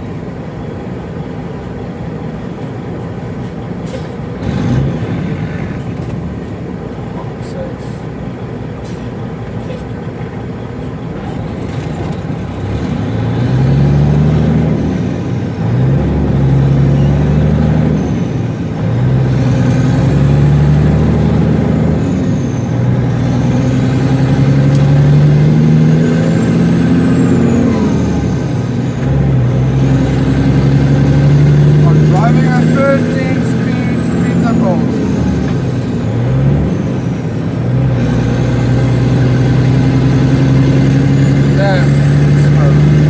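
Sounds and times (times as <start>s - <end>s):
truck diesel engine accelerating: 0.0s - 43.0s.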